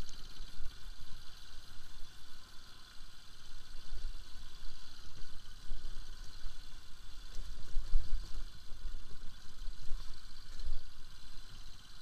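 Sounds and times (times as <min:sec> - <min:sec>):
motorcycle low rumble: 0:00.0 - 0:12.0
steady hiss: 0:00.0 - 0:12.0.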